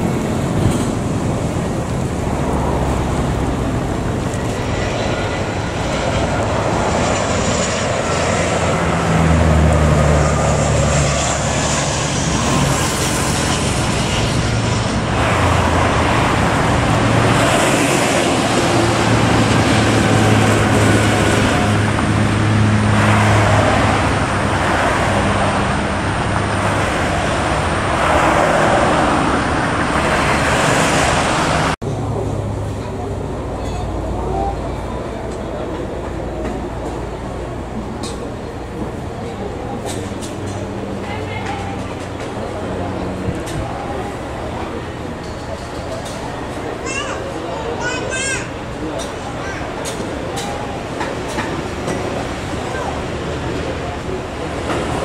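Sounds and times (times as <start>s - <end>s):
jet engine rumble and whine: 0.0s - 55.0s
road traffic passing: 0.0s - 55.0s.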